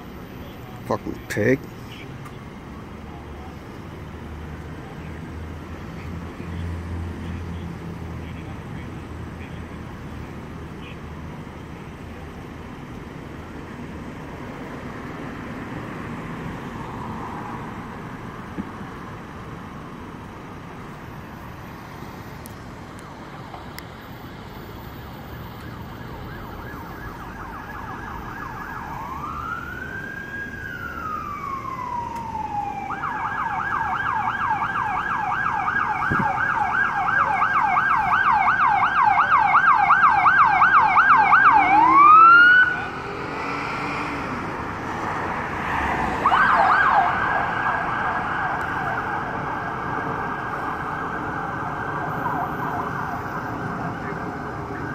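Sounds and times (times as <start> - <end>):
emergency vehicle siren: 0.0 - 54.9
street noise: 0.0 - 54.9.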